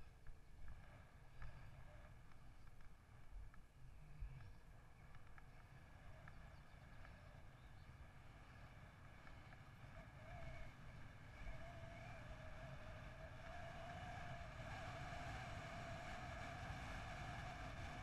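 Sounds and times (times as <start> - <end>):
faint steady whine: 0.0 - 18.0
wind noise: 3.4 - 18.0.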